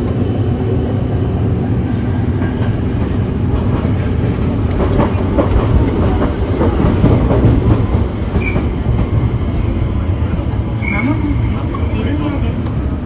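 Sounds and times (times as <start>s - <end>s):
subway car wheels rumbling on rail: 0.0s - 13.0s.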